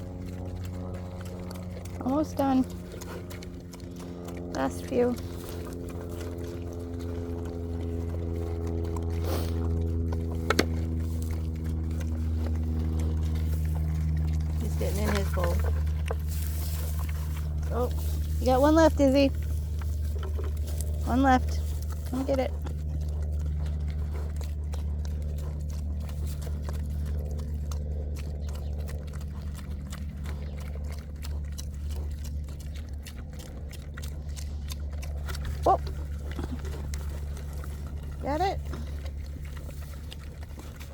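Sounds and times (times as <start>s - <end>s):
low mechanical hum: 0.0s - 40.9s
pigs eating with crunches: 0.0s - 40.9s.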